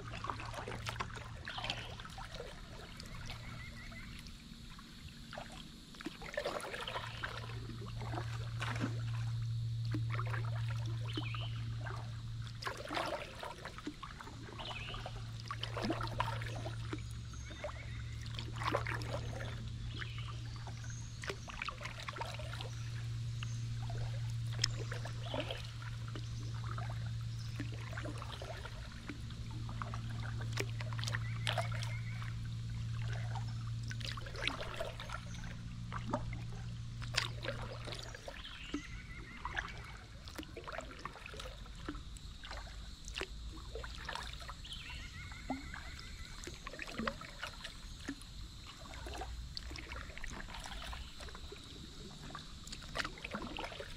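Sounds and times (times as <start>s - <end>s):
steady low hum: 0.0s - 53.9s
water splashing and trickling: 0.0s - 53.9s.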